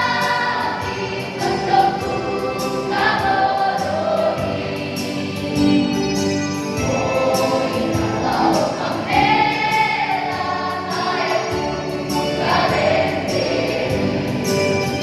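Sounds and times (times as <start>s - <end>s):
choir singing: 0.0s - 6.0s, 6.8s - 15.0s.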